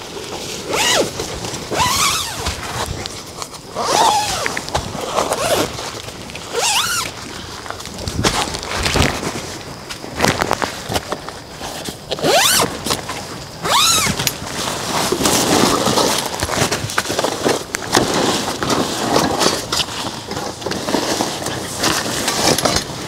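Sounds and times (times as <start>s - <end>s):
crackling and rustling: 0.0s - 23.0s.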